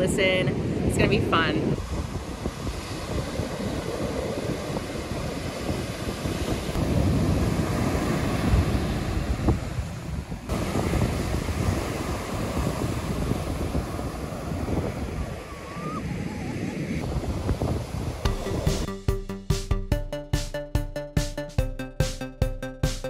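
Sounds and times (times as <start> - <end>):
ocean surf breaking: 0.0 - 18.9
wind buffeting microphone: 0.0 - 18.9.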